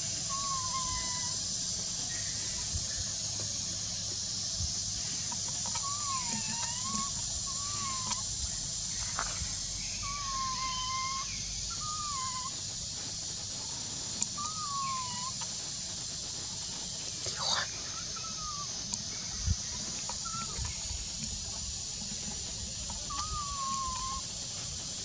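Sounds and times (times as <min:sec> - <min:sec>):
steady high hiss: 0:00.0 - 0:25.0
baby monkey coo calls: 0:00.1 - 0:03.6, 0:04.9 - 0:25.0.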